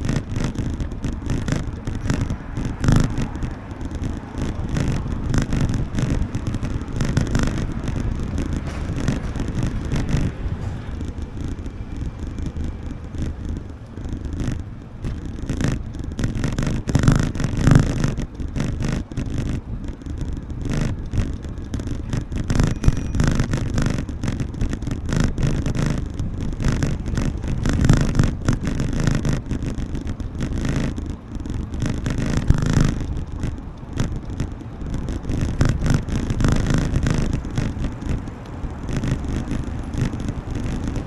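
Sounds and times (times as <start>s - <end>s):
city traffic rumble: 0.0s - 41.0s
wind buffeting microphone: 0.0s - 41.0s.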